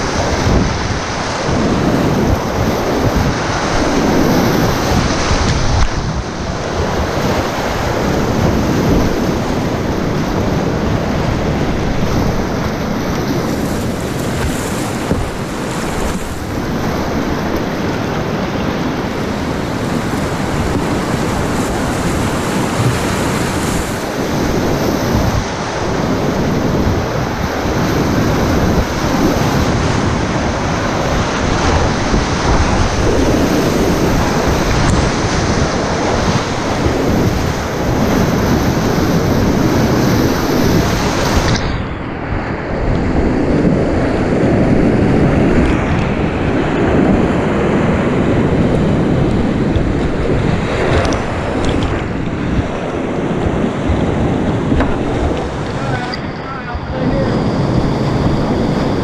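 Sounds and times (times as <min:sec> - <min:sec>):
rushing whitewater: 0:00.0 - 0:59.0
water splashing against boat: 0:00.0 - 0:59.0.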